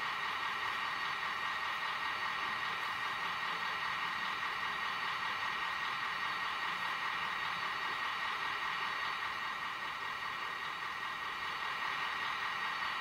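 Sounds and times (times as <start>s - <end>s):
diesel engine idling through loudspeaker: 0.0s - 13.0s.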